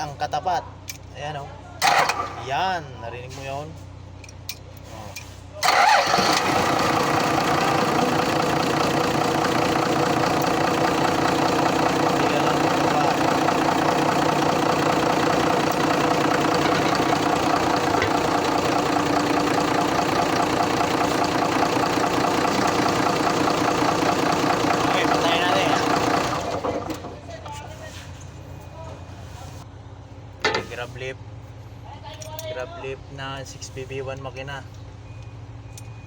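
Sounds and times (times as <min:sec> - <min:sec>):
diesel engine running: 0:01.8 - 0:04.4, 0:05.2 - 0:36.0.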